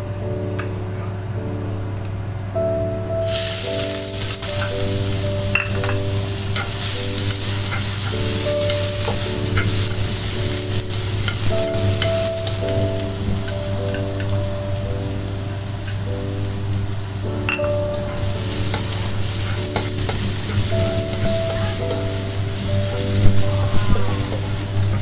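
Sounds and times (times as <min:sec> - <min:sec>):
garlic sizzling in hot oil: 0:03.2 - 0:25.0.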